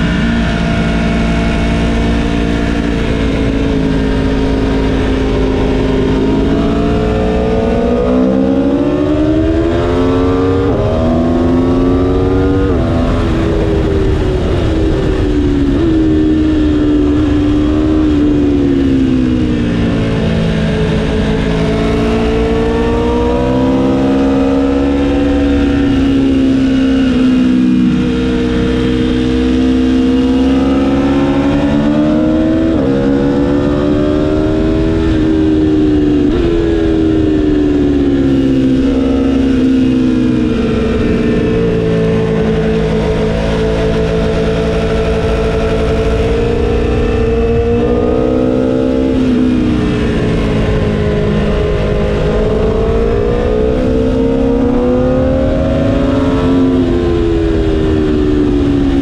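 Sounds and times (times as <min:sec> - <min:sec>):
motorcycle engine revving: 0:00.0 - 0:59.0
wind noise on microphone: 0:00.0 - 0:59.0.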